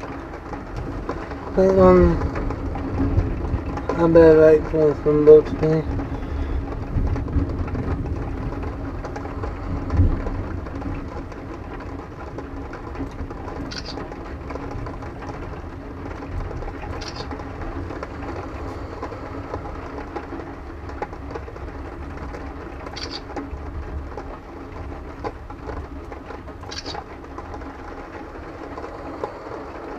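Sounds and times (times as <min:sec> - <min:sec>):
low thunder rumbling: 0:00.0 - 0:29.9
rain hissing: 0:00.0 - 0:29.9.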